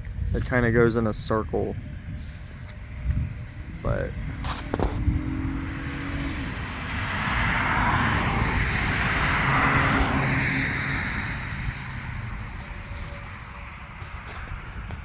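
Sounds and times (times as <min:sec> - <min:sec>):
vehicle passing by: 0:02.2 - 0:15.0.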